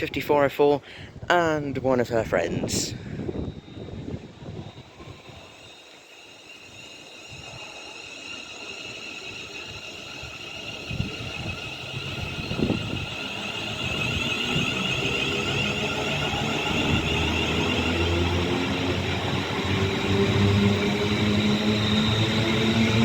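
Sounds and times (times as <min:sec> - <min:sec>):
electric train motors whining: 0:02.6 - 0:23.0.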